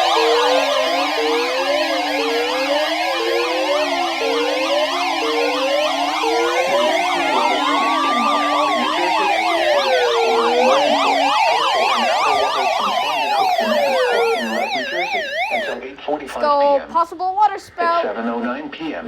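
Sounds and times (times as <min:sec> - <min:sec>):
electronic siren wailing: 0:00.0 - 0:15.8
low steady siren tones: 0:00.0 - 0:15.8
siren yelping warbles: 0:00.0 - 0:15.8.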